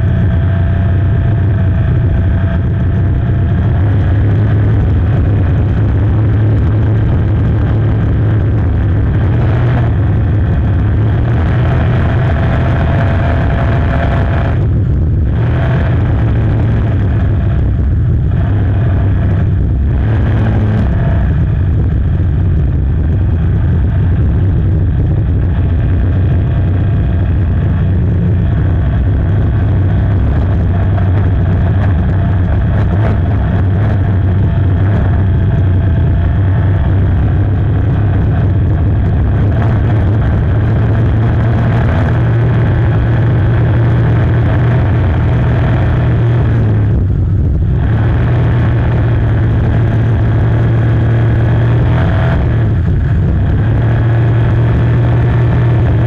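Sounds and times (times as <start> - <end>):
racing boat engine running: 0.0 - 56.0.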